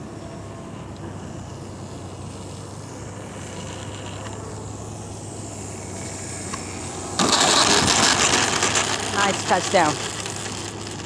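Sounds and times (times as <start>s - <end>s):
model plane motor whirring: 0.0s - 11.0s
wheels rolling on concrete: 0.0s - 11.0s.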